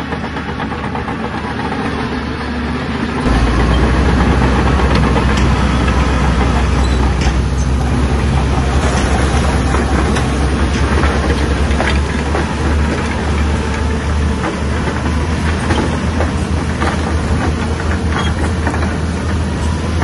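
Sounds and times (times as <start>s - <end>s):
bulldozer diesel engine running hard: 0.0s - 20.0s.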